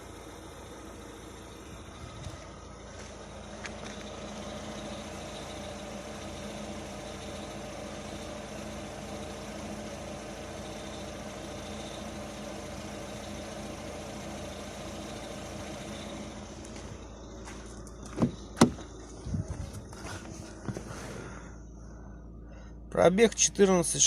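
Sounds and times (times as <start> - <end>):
car engine idling hum: 0.0 - 24.0.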